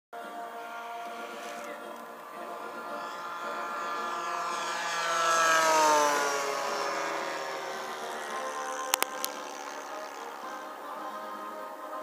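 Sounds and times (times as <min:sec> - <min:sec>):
model plane engine buzz: 0:00.2 - 0:12.0.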